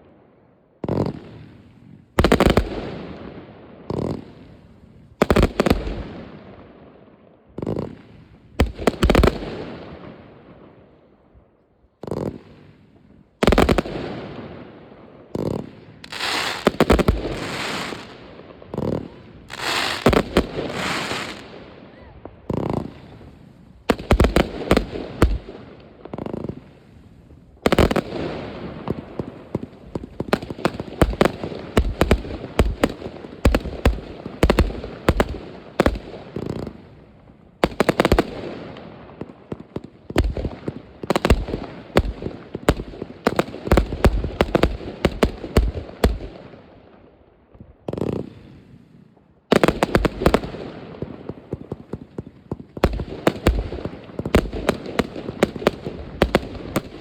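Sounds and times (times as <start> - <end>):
fireworks crackling bangs and pops: 0.8 - 6.8, 7.5 - 10.8, 12.0 - 57.0.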